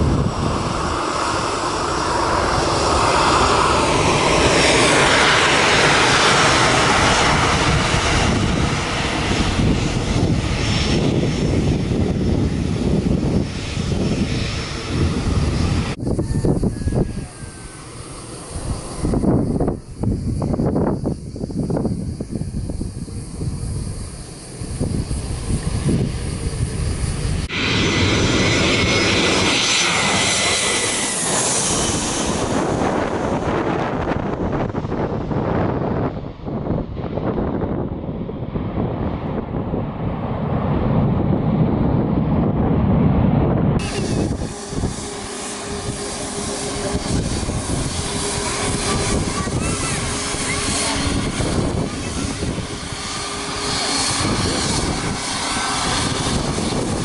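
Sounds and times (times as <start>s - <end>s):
jet airliner passing overhead: 0.0s - 57.0s.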